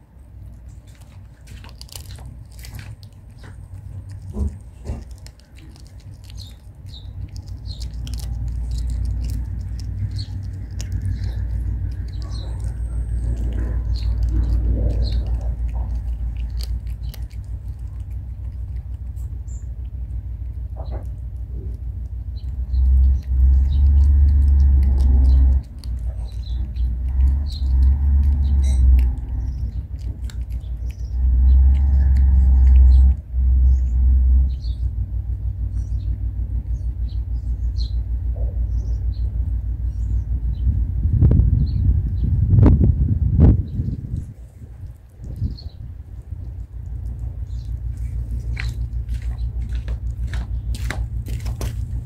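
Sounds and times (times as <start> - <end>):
cat chewing and licking: 0.0 - 39.5, 41.3 - 52.0
low rumble: 0.0 - 52.0.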